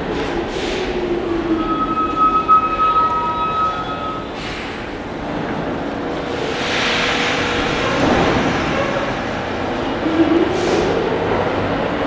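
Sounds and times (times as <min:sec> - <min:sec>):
subway train pulling out: 0:00.0 - 0:12.0.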